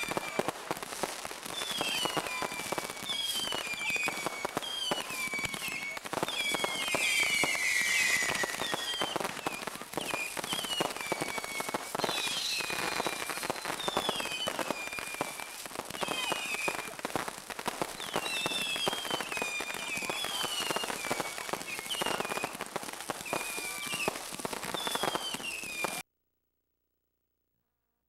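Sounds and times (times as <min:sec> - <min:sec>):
crackle of firework sparks: 0:00.0 - 0:26.0
descending firework whistles: 0:00.0 - 0:26.0.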